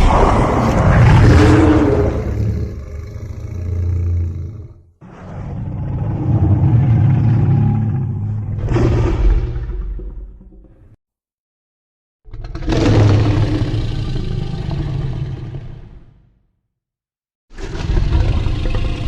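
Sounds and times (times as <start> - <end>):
deep rasping monster roar: 0.0 - 10.8, 12.3 - 16.2, 17.6 - 19.0.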